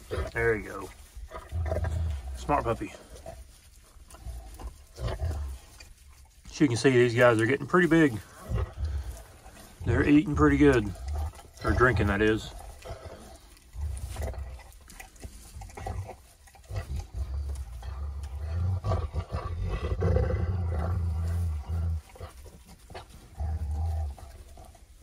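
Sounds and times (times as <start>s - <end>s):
puppies growling: 0.0s - 25.0s.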